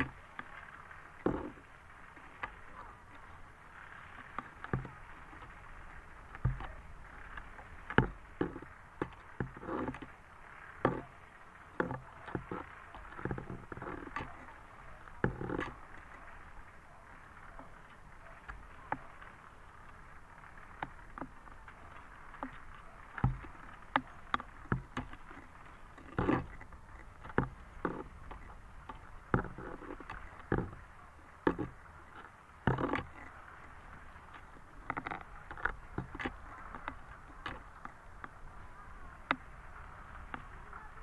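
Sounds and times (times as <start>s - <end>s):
lake water lapping: 0.0s - 41.0s.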